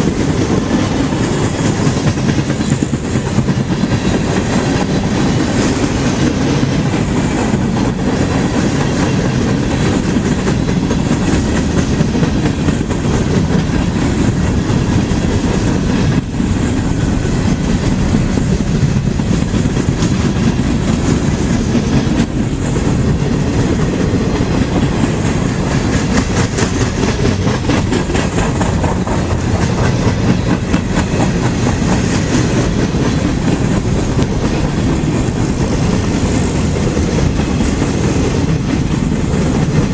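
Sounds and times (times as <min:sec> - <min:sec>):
freight train cars rumbling: 0:00.0 - 0:39.9
wheels clicking over rail joints: 0:00.0 - 0:39.9.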